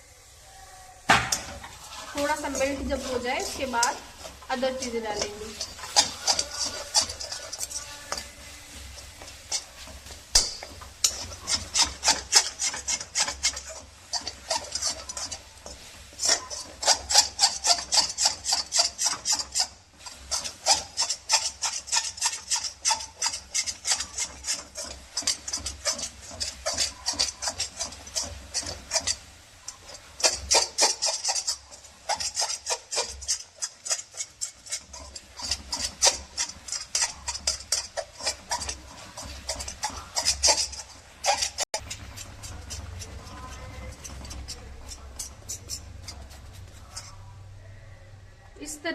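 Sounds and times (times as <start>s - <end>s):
spatula scraping a pan: 1.1s - 47.8s.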